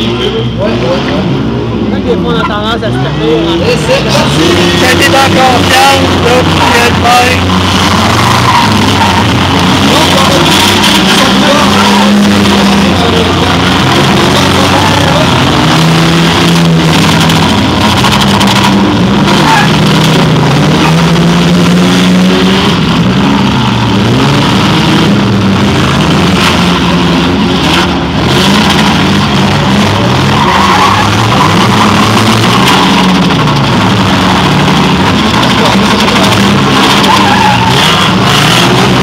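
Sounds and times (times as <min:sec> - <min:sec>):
car engines revving hard: 0:00.0 - 0:39.0.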